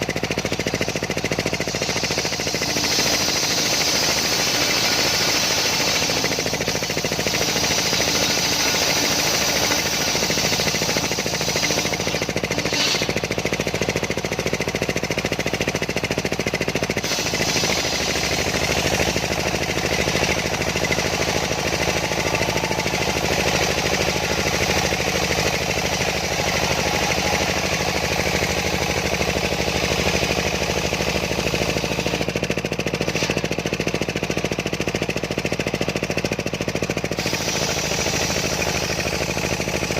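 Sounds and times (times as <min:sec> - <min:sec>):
saw blade cutting wood: 0:00.0 - 0:14.1, 0:17.0 - 0:32.4, 0:33.0 - 0:33.6, 0:37.2 - 0:39.5
engine beat: 0:00.0 - 0:39.9.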